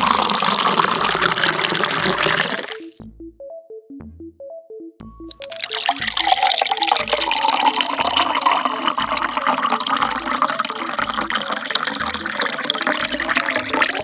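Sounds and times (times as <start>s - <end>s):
water pouring into glass with ice: 0.0s - 3.0s, 5.3s - 14.0s.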